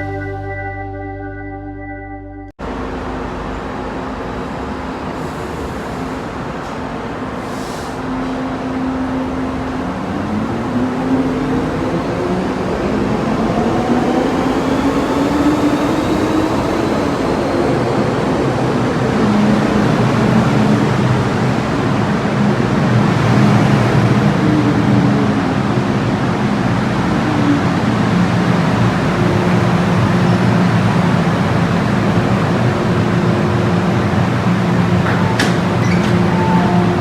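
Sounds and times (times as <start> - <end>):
train rumble: 2.6 - 37.0.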